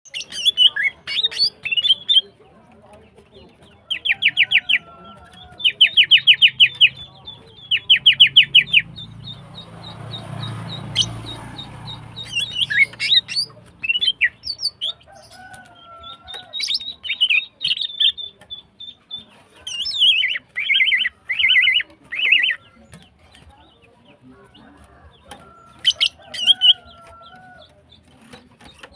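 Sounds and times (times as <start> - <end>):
bird trilling and chirping: 0.0 - 2.4, 3.1 - 28.9.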